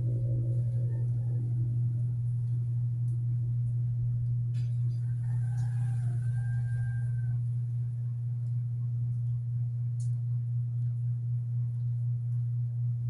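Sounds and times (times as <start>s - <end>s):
low-pitched hum: 0.0s - 13.0s.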